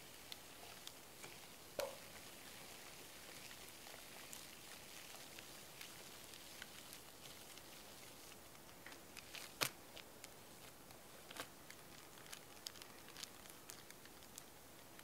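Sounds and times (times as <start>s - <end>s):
batter clicks and crackles: 0.0s - 15.0s.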